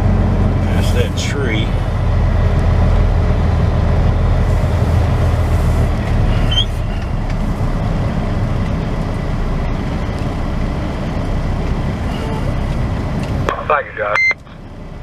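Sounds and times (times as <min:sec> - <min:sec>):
diesel truck engine rumble: 0:00.0 - 0:15.0.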